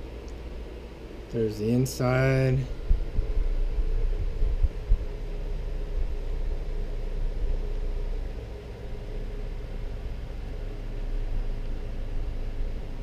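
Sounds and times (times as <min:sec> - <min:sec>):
faint hum: 0:00.0 - 0:13.0
low steady rumble: 0:00.0 - 0:13.0.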